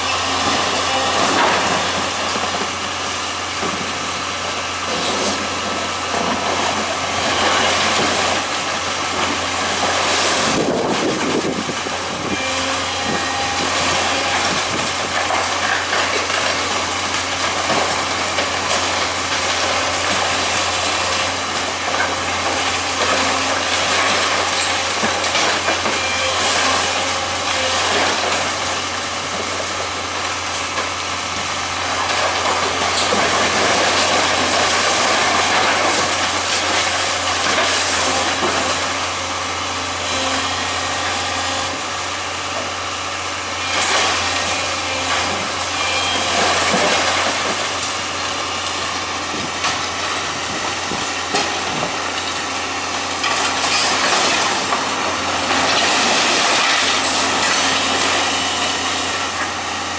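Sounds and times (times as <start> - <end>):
heavy engine humming: 0.0 - 59.9.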